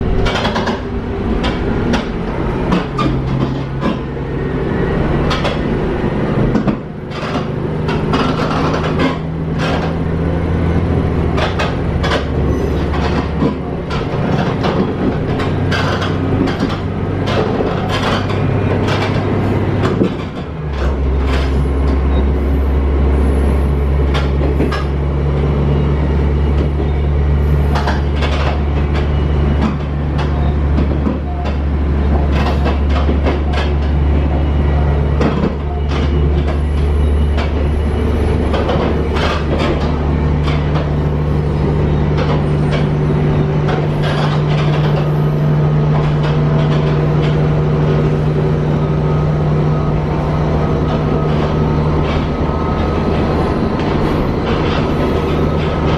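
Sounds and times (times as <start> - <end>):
railcar engine hum: 0.0 - 55.9.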